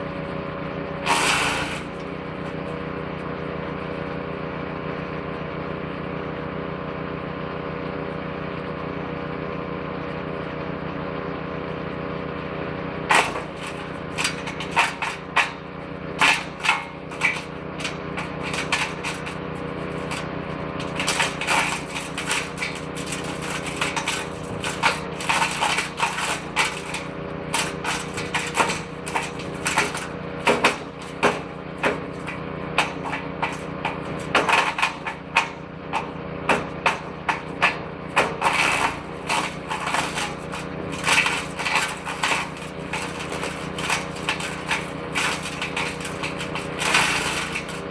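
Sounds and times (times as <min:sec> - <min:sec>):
branches cracking in shredder: 0:00.0 - 0:47.9
shredder petrol engine running: 0:00.0 - 0:47.9.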